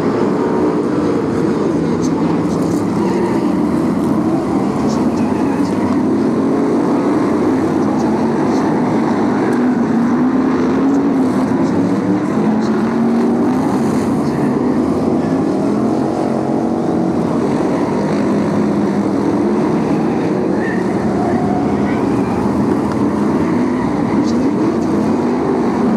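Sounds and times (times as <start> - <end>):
racing car engines droning: 0.0 - 25.9.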